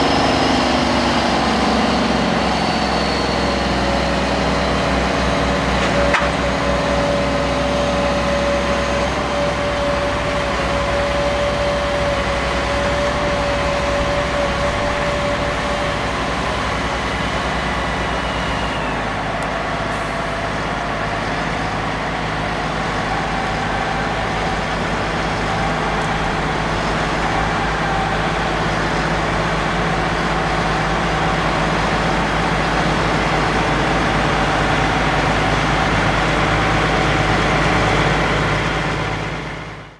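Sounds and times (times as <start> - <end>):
steady whine: 0.0 - 39.9
tractor diesel engine running: 0.0 - 39.9
wood chipper running: 0.0 - 39.9.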